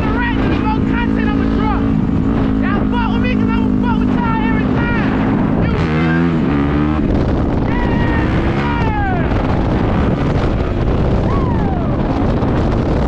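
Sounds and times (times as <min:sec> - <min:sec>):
dirt bike engine revving: 0:00.0 - 0:13.0
wind noise on microphone: 0:00.0 - 0:13.0.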